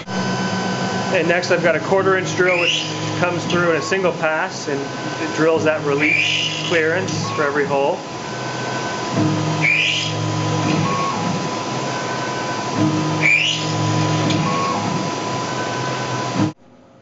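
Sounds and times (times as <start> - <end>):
drill cutting aluminum: 0.0 - 16.4
milling machine hum: 0.0 - 16.6
steady high whine: 0.0 - 17.0.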